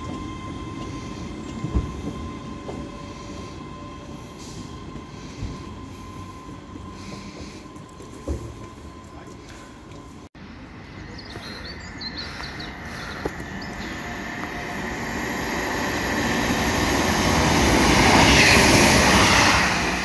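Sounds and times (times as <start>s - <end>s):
passenger train passing: 0.0s - 20.0s.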